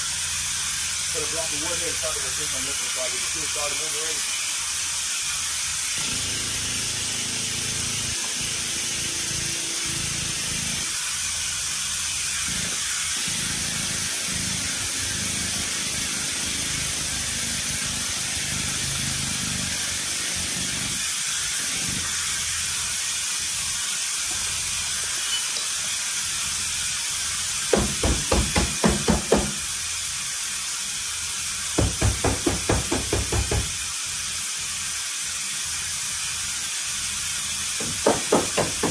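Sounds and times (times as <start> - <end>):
machine running with steady hiss: 0.0 - 38.9.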